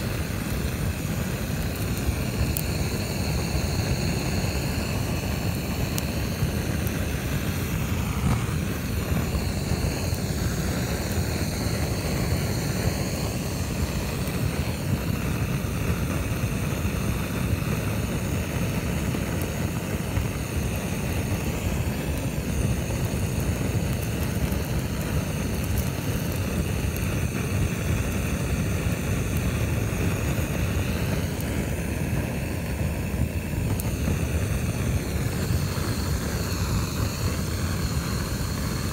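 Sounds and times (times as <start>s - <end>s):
gas torch flame roaring: 0.0s - 38.9s.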